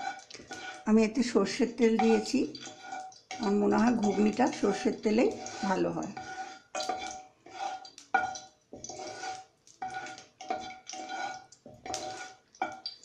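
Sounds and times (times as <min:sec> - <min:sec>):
wooden spatula scraping a pan: 0:00.0 - 0:13.0.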